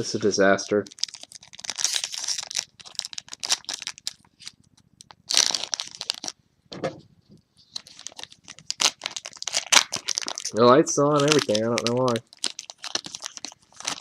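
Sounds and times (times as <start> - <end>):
foil wrapper crinkling: 0.2 - 6.4, 7.6 - 14.0.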